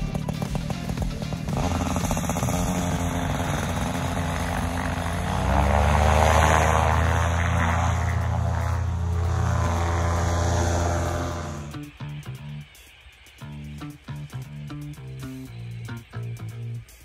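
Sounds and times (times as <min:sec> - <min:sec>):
paramotor engine and propeller: 0:00.0 - 0:16.4.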